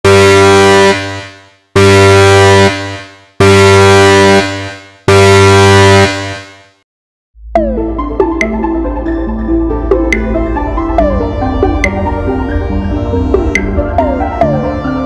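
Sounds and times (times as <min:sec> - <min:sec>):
deep synthesized horn blasts: 0:00.1 - 0:06.6, 0:07.6 - 0:15.0.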